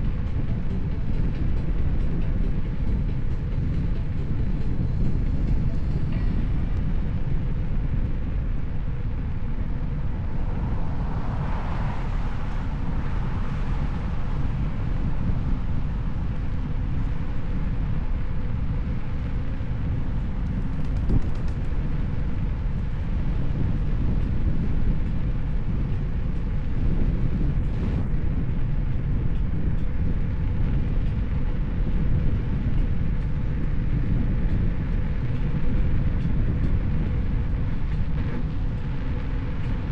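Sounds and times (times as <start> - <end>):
faint steady hum: 0.0 - 39.9
road rumble: 0.0 - 39.9
wind buffeting microphone: 0.0 - 39.9.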